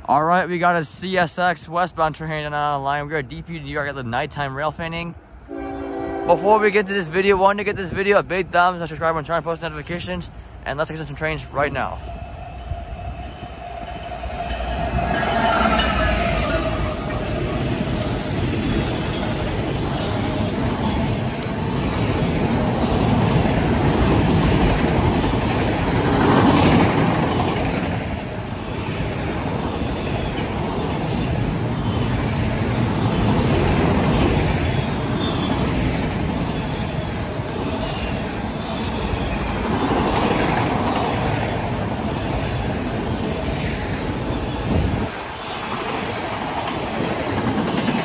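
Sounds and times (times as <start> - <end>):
freight train wheels rumbling: 4.3 - 48.0.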